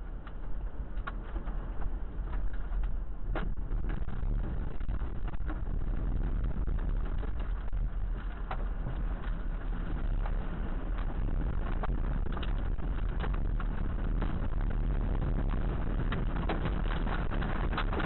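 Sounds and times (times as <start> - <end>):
storm wind rumble: 0.0 - 18.0
vehicle noise: 0.0 - 18.0.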